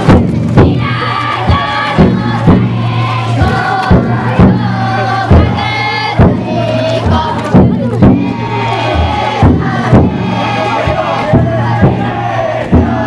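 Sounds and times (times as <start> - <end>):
group chanting: 0.0 - 13.0
taiko drum beating: 0.0 - 13.0.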